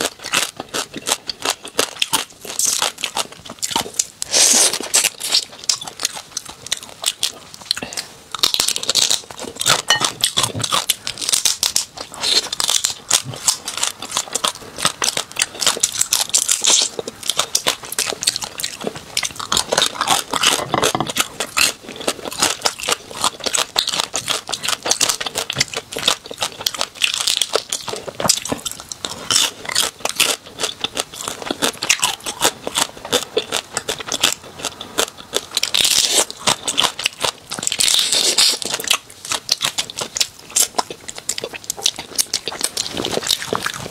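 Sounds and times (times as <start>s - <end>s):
chewing: 0.0s - 43.9s
crab shells cracking and crunching: 0.0s - 43.9s.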